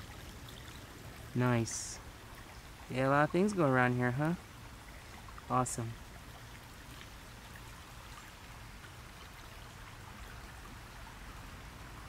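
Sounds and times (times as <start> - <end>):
creek trickling over stones: 0.0 - 12.0.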